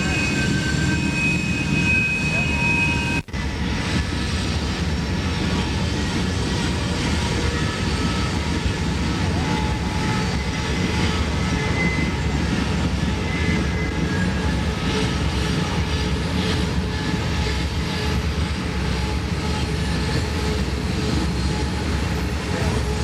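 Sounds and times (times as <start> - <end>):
diesel train rumbling by: 0.0 - 23.0.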